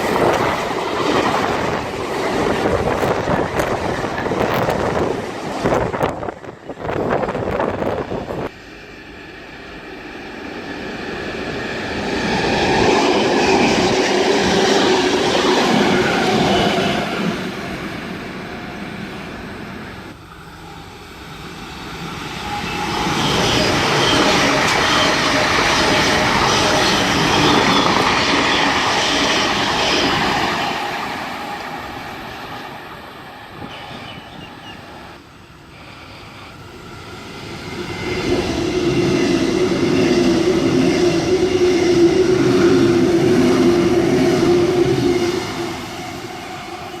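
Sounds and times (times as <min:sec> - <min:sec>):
train passing at speed: 0:00.0 - 0:47.0.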